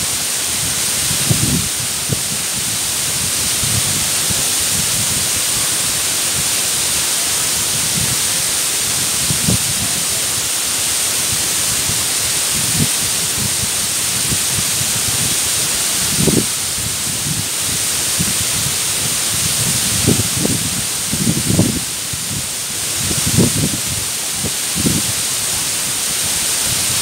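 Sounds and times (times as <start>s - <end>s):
waterfall rushing into pool: 0.0s - 27.0s.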